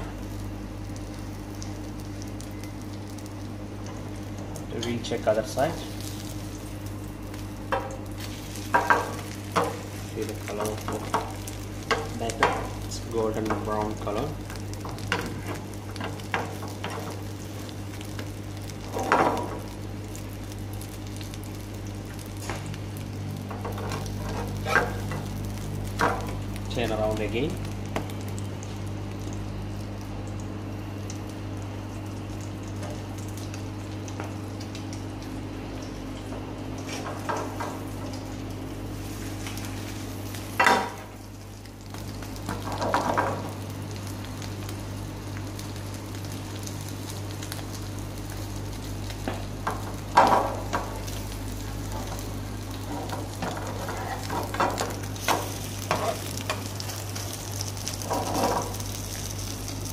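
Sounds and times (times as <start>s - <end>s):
chicken sizzling in frying pan: 0.0s - 59.9s.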